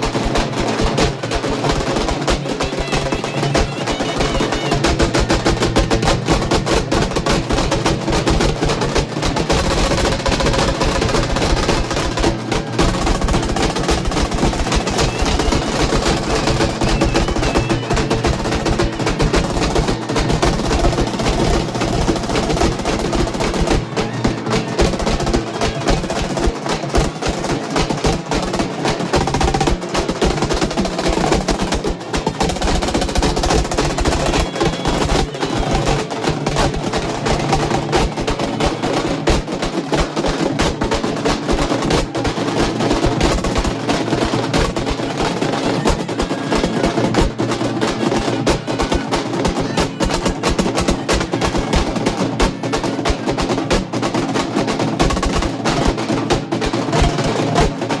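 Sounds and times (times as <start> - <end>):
frame drums beaten with sticks: 0.0 - 58.0.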